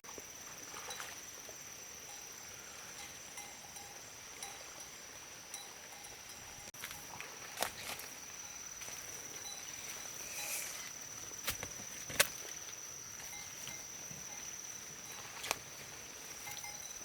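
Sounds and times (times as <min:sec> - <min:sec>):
high-pitched insect trill: 0:00.1 - 0:17.0.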